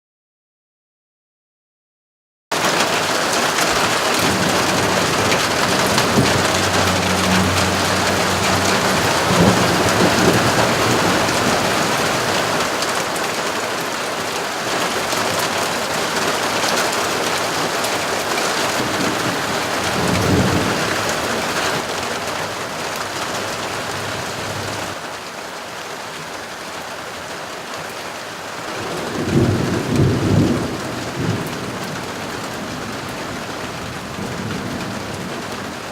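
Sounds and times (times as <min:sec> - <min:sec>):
rain pouring: 0:02.5 - 0:35.9
thunder rumbling: 0:02.7 - 0:25.0, 0:28.7 - 0:35.9.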